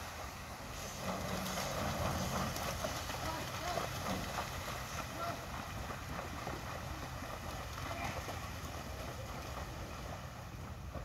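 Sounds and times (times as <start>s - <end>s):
faint splashing in shallow water: 0.0s - 11.0s.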